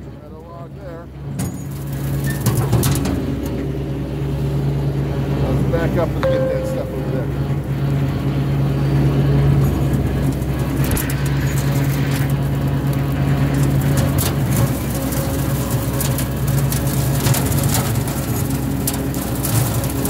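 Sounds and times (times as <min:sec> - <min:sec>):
tractor engine running: 0:00.4 - 0:20.0.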